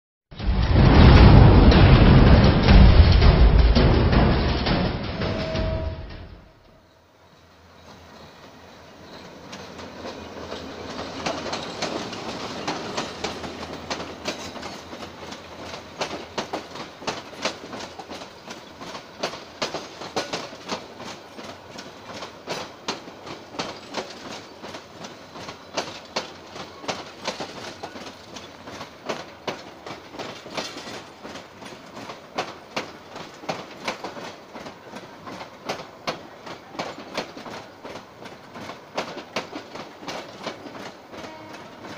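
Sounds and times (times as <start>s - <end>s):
train wheels clacking over rail joints: 0.4s - 6.6s, 7.3s - 41.9s
diesel locomotive engine: 0.4s - 41.9s.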